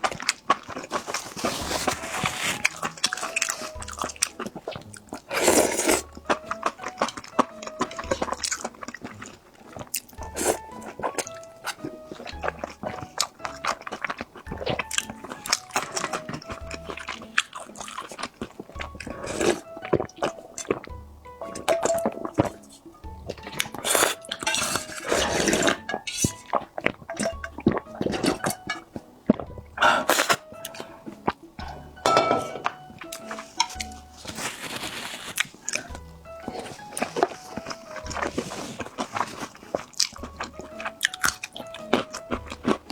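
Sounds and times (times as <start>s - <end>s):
chewing crisp food: 0.0s - 42.9s
dishes and utensils clinking: 0.0s - 42.9s
liquid splashing: 0.0s - 42.9s
quiet background music: 0.0s - 42.9s.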